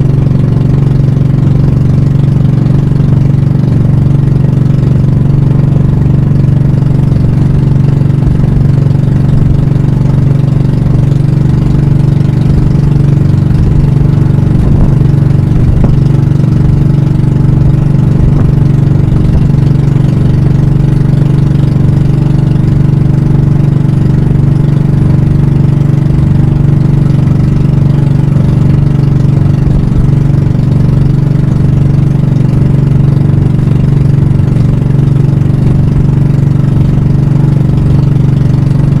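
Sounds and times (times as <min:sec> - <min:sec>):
boat engine running steadily: 0:00.0 - 0:39.0.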